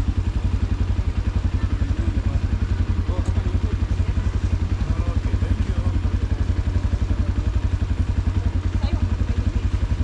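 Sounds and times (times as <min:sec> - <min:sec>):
faint voices: 0:00.0 - 0:10.0
motorcycle engine idling: 0:00.0 - 0:10.0.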